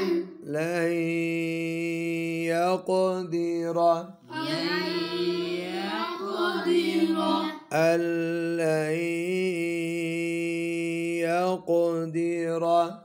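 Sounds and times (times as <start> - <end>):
person chanting recitation: 0.0 - 13.0.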